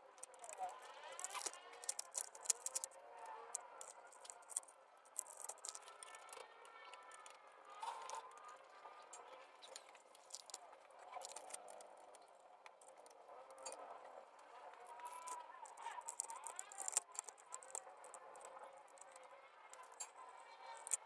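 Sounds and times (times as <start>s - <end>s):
small parts clicking and rattling: 0.0s - 21.0s.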